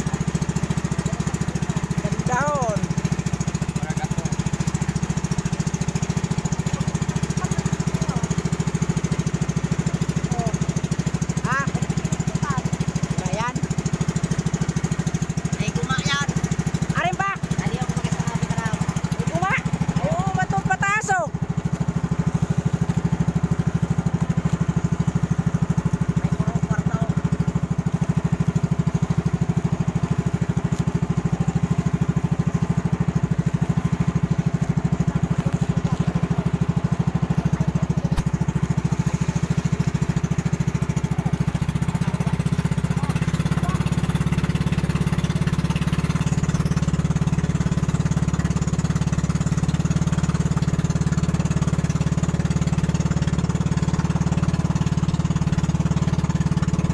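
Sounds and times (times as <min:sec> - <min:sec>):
boat engine pulsing drone: 0:00.0 - 0:56.9.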